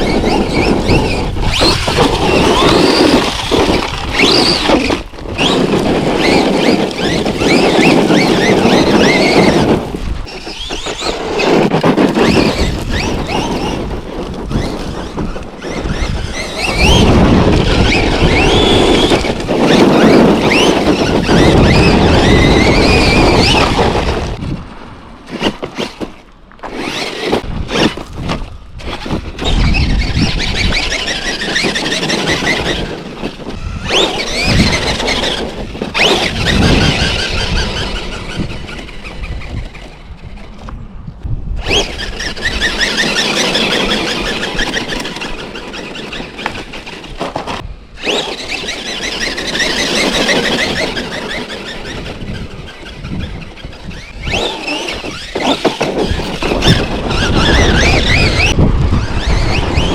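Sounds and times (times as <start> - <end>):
rc truck electric motor whining: 0.0 - 24.5, 25.2 - 40.7, 41.6 - 59.9.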